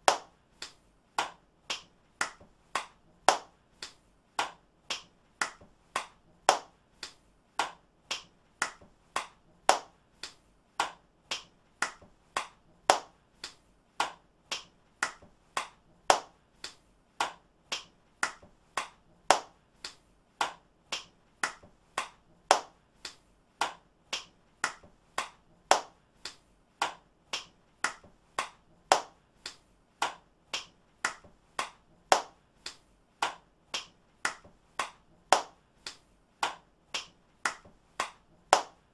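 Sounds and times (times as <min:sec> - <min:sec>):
hand clapping: 0:00.0 - 0:38.9.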